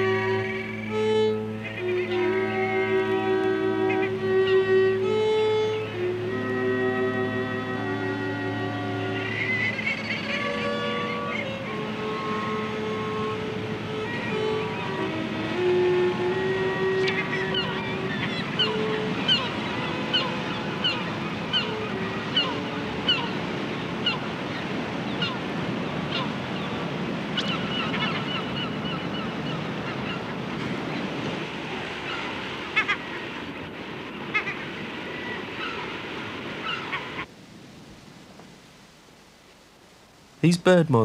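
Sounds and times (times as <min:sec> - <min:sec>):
seabirds calling: 0:00.0 - 0:37.3
surf washing: 0:00.0 - 0:41.0.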